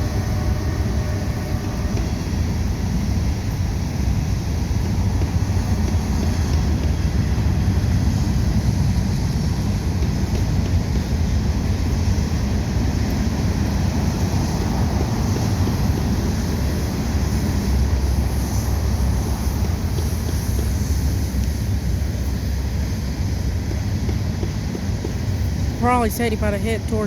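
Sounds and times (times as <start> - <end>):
wind noise on microphone: 0.0 - 25.8
vehicle rumble: 0.0 - 27.0.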